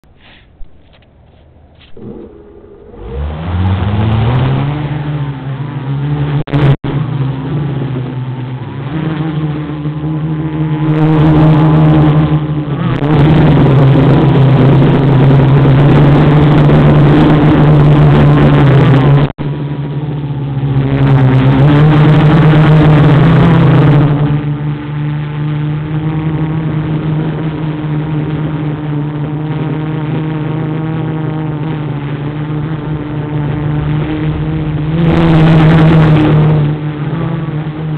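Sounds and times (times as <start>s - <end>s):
quadcopter propellers buzzing: 0.1s - 37.9s.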